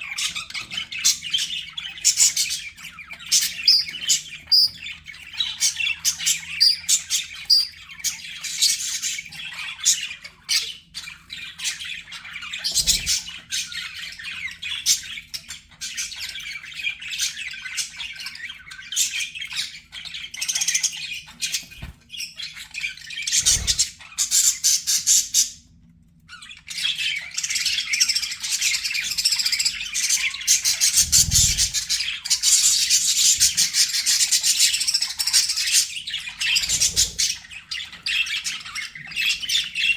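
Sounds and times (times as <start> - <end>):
budgerigars chattering: 0.0 - 25.6, 26.7 - 39.9.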